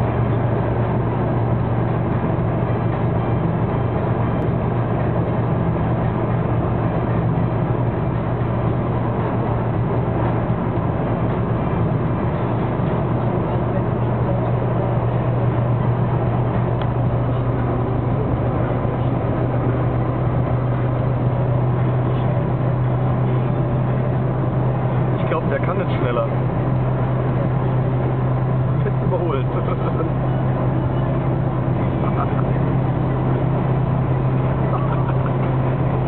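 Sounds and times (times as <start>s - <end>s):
diesel engine drone from inside car: 0.0s - 36.0s
road and wind noise: 0.0s - 36.0s.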